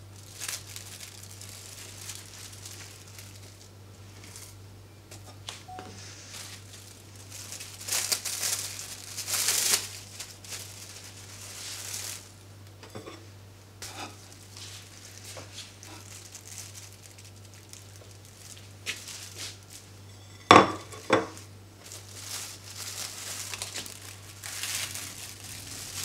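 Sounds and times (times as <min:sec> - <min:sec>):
plastic film crinkling: 0:00.0 - 0:04.6, 0:05.6 - 0:12.5, 0:13.8 - 0:20.1, 0:20.9 - 0:26.0.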